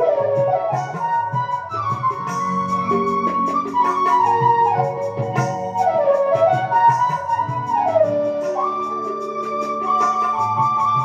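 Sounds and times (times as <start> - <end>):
flute melody: 0.0 - 11.0
tabla beat: 0.0 - 11.0.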